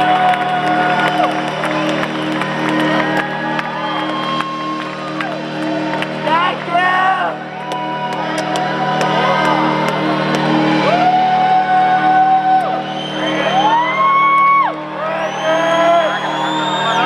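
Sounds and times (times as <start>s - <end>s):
crowd screaming and whooping: 0.0s - 17.0s
music from sound system: 0.0s - 17.0s.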